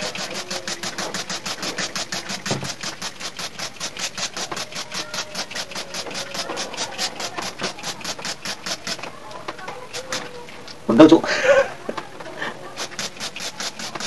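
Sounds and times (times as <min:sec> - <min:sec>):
spray bottle hissing squirts: 0:00.0 - 0:10.8, 0:12.4 - 0:14.0.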